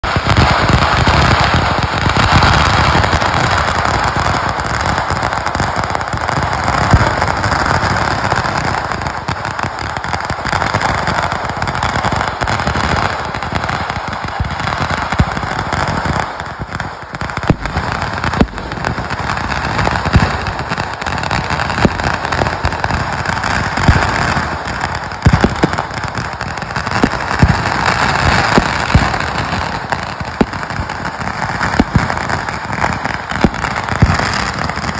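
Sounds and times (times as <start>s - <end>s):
firecracker bangs: 0.0s - 34.9s
fireworks crackling: 0.0s - 34.9s.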